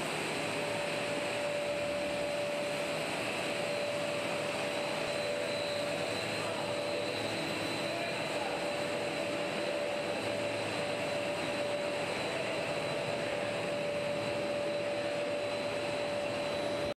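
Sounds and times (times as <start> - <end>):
machinery rushing noise: 0.0 - 17.0
mid-pitched machine whine: 0.0 - 17.0.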